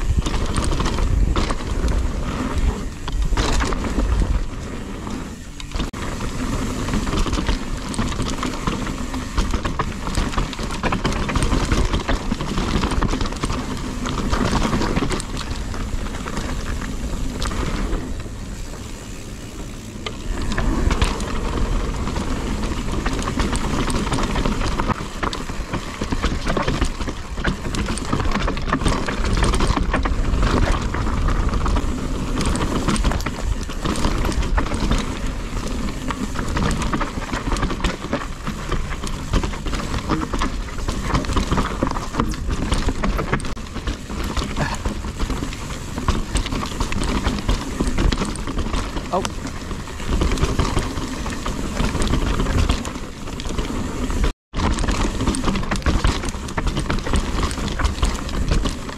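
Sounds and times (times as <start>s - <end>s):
bike chain and frame rattling: 0.0s - 58.9s
bike tyres rolling over dirt: 0.0s - 58.9s.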